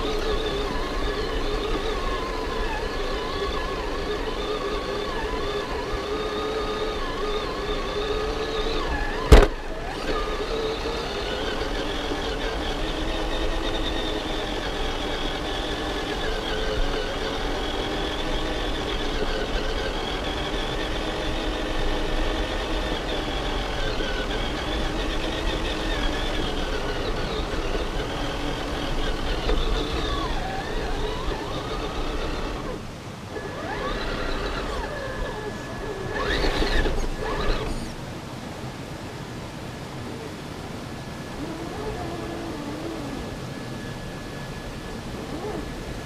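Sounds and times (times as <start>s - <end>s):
electric motor whining: 0.0s - 38.4s, 39.7s - 46.0s.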